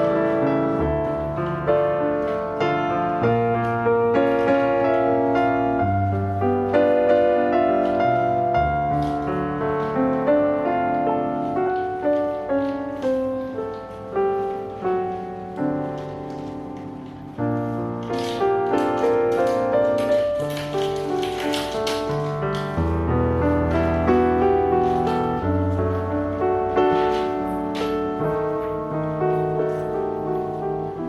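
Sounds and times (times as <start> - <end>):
solo piano melody: 0.0 - 31.0.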